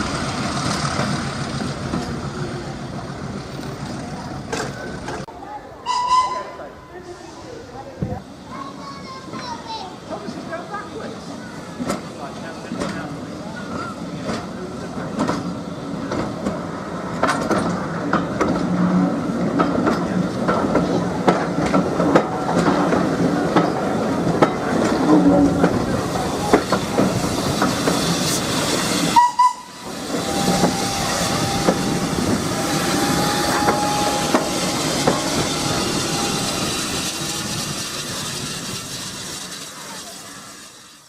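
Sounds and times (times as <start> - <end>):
train wheels clicking on rails: 0.0 - 5.3, 8.0 - 41.0.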